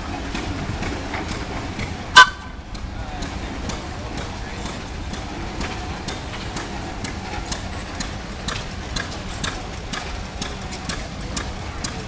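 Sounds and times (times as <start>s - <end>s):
old tractor engine running slowly: 0.0s - 12.0s.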